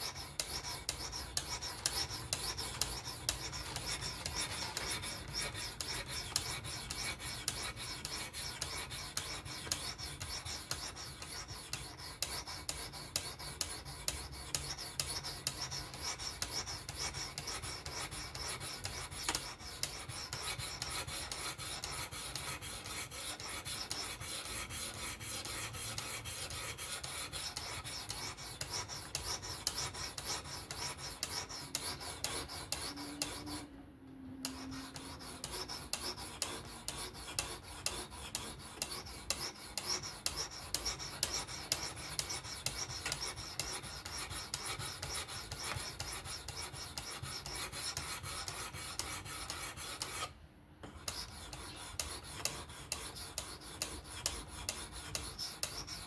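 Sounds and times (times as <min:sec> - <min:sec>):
sharpening plate rasping on knife: 0:00.0 - 0:33.7, 0:34.4 - 0:50.3, 0:50.9 - 0:56.0.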